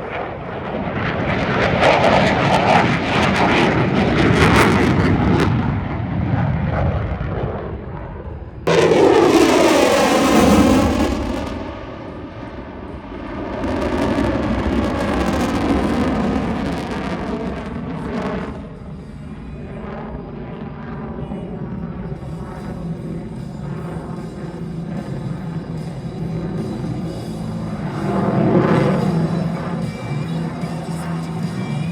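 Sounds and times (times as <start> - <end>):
jet aircraft flying past: 0.0 - 31.9.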